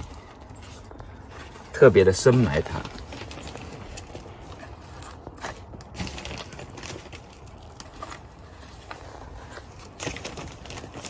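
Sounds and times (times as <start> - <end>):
soil crunching and rustling: 0.0 - 11.0.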